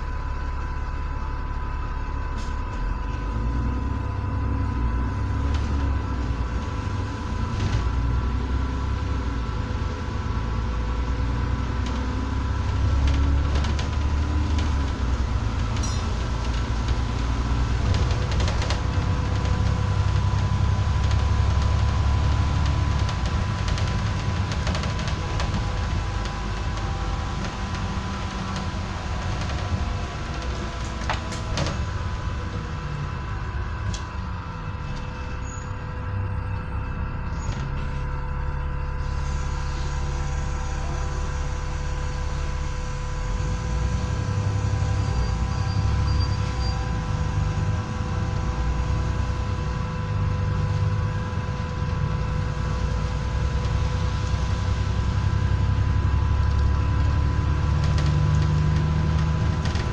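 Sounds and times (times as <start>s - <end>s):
bus engine rumble: 0.0s - 59.9s
steady whine: 0.0s - 59.9s.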